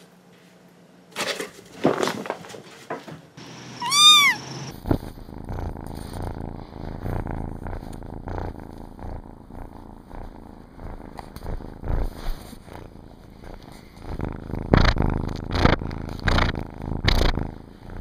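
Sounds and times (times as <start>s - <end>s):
kitten purring: 3.4s - 18.0s.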